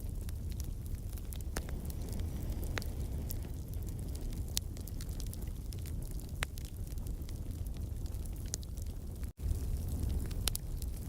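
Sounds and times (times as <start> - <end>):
fire crackling in a fireplace: 0.0 - 11.0
low rumble of flames: 0.0 - 11.0.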